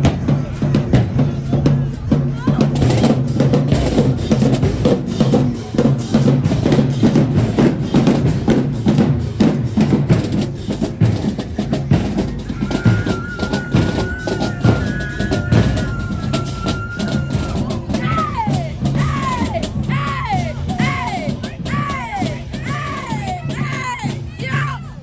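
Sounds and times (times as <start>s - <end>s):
rapid drum hits: 0.0s - 24.8s
marching band playing: 0.0s - 25.0s.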